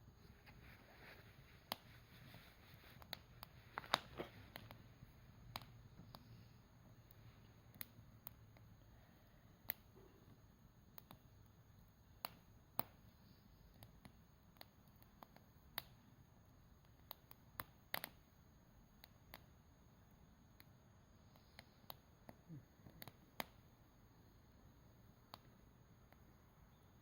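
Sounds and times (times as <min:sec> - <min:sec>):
bonfire crackling: 0:00.1 - 0:23.9.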